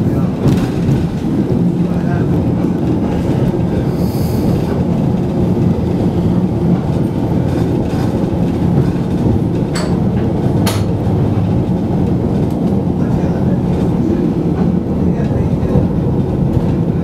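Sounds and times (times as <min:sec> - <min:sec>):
tram wheels on rails: 0:00.0 - 0:17.0.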